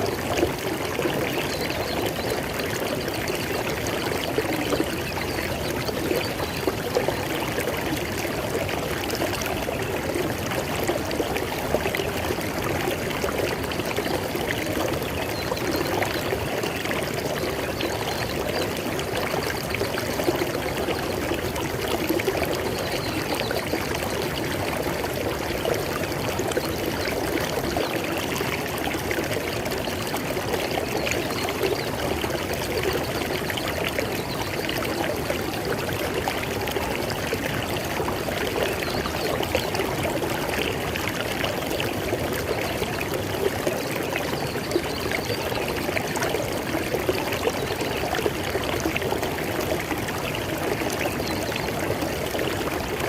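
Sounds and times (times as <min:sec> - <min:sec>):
river water flowing over rocks: 0:00.0 - 0:53.0.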